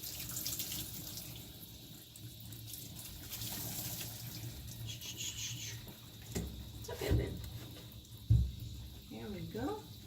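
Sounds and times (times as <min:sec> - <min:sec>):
water running and splashing: 0:00.0 - 0:10.0.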